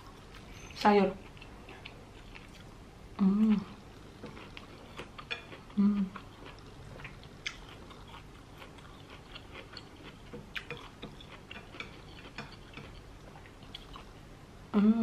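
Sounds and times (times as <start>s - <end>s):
person chewing: 1.2s - 14.2s.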